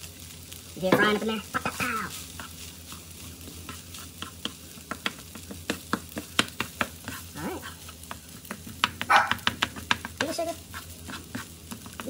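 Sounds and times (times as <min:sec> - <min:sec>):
rice sizzling in skillet: 0:00.0 - 0:12.0
wooden spatula scraping pan: 0:00.8 - 0:12.0.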